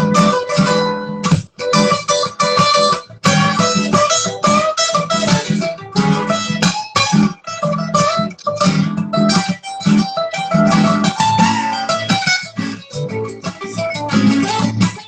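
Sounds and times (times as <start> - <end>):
guitar-led instrumental music: 0.0 - 15.0.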